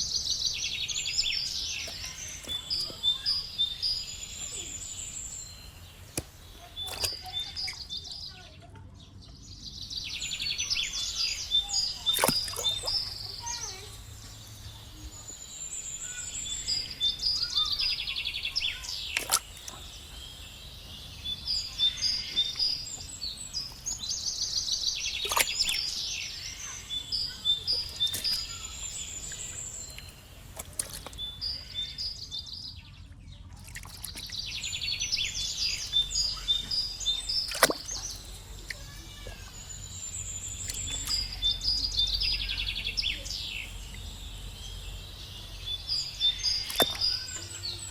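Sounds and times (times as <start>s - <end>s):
birds chirping and trilling: 0.0s - 47.9s.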